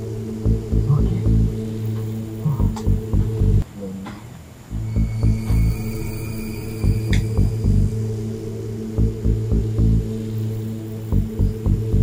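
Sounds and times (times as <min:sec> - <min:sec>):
pulsing low beat: 0:00.0 - 0:03.6, 0:04.7 - 0:12.0
low steady drone: 0:00.0 - 0:12.0.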